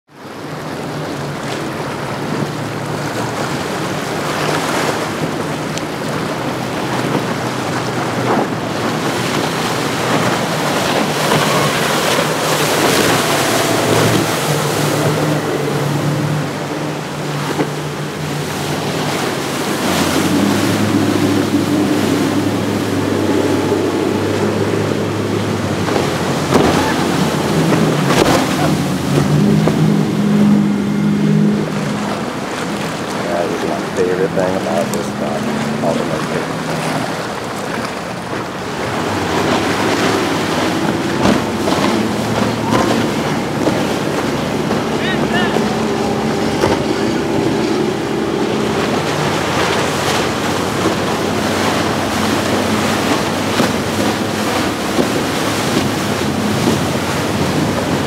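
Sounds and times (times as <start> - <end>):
water rushing and slapping: 0.0 - 58.0
motorboats passing: 0.1 - 58.0
outboard engine drone: 0.1 - 58.0.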